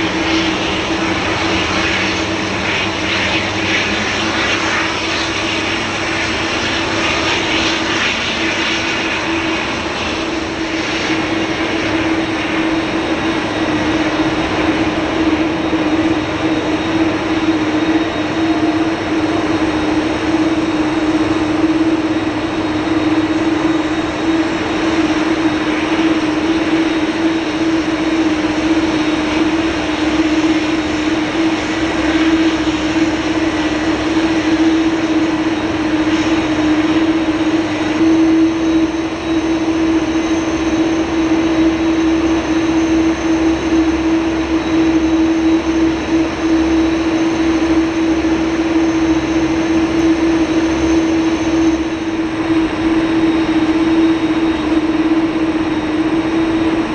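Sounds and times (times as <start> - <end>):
jet engines droning: 0.0 - 56.9.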